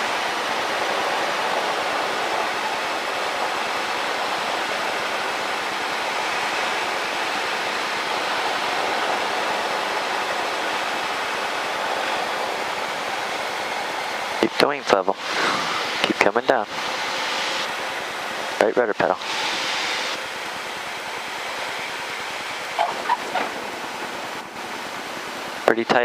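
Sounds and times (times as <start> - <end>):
light aircraft cockpit roar: 0.0 - 26.0.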